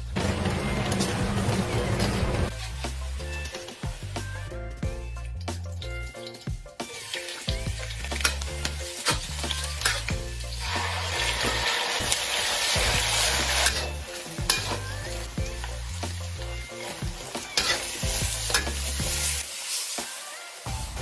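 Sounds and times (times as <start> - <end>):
background music with bass line: 0.0 - 6.9, 7.5 - 19.4, 20.7 - 21.0
food sizzling in a pan: 0.0 - 21.0.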